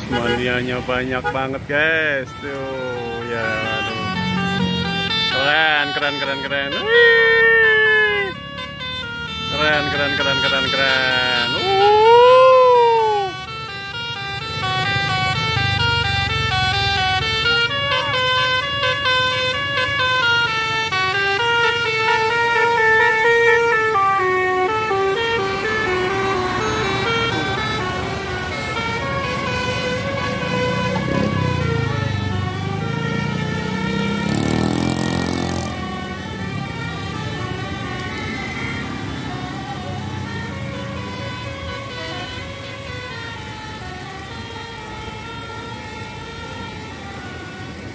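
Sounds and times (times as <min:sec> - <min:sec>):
multi-tone air horn tune: 0:00.0 - 0:01.5, 0:02.2 - 0:47.9.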